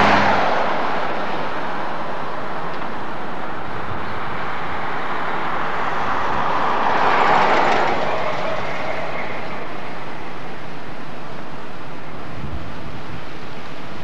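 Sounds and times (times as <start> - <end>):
car passing close by: 0.0 - 11.5
street traffic noise: 0.0 - 14.0.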